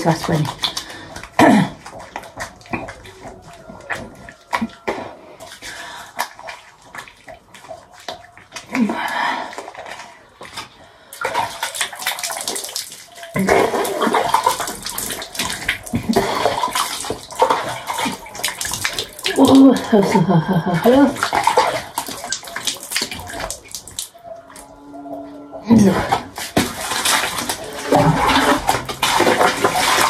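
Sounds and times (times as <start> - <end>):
water splashing: 0.0 - 30.0.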